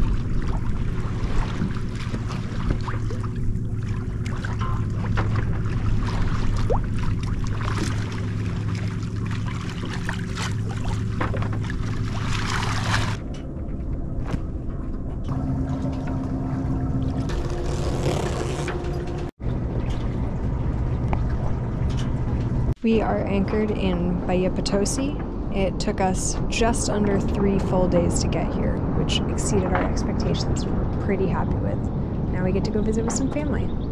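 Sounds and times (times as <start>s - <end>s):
boat engine running: 0.0s - 33.9s
water noise: 0.0s - 33.9s.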